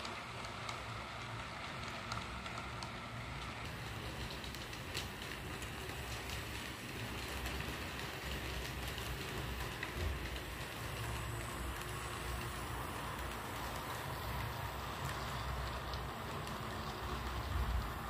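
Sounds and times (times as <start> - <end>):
model train motor whirring: 0.0 - 18.0
wheels rumbling on rails: 0.0 - 18.0.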